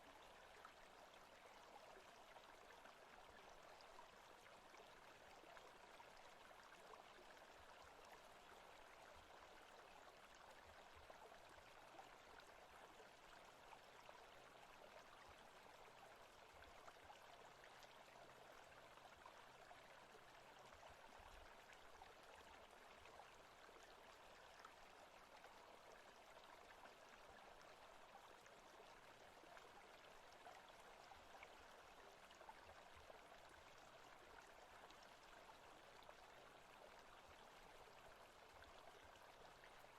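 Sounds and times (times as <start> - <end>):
faint stream running water: 0.0 - 39.9.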